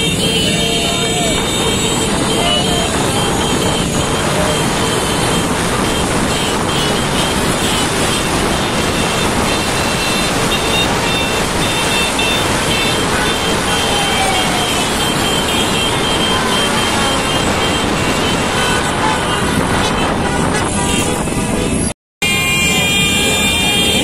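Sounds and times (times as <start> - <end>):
wind noise: 0.0 - 21.9
road traffic rushing: 0.0 - 24.0.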